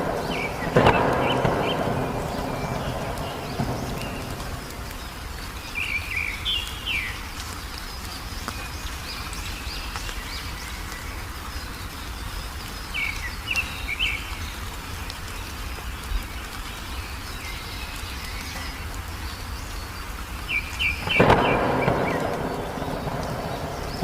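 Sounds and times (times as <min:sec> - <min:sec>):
background hiss: 0:00.0 - 0:24.0
songbirds chirping: 0:00.0 - 0:24.0.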